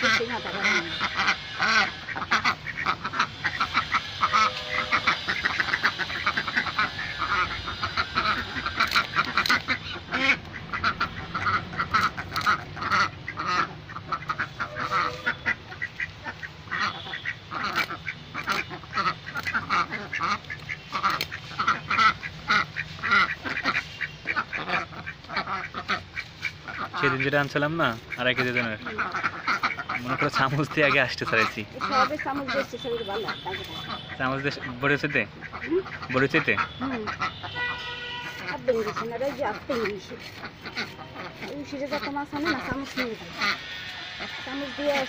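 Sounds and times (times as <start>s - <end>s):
ducks quacking: 0.0s - 45.0s.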